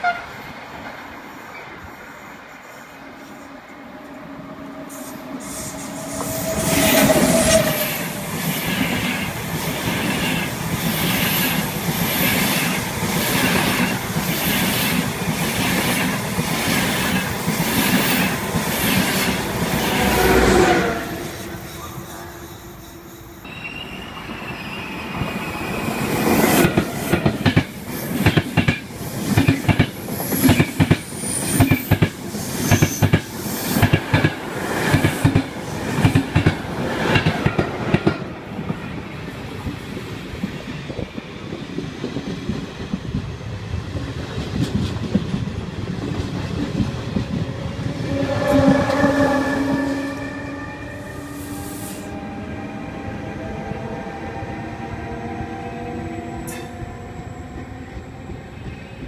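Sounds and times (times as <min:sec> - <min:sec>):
train rumble: 0:00.0 - 0:23.5, 0:25.1 - 0:59.0.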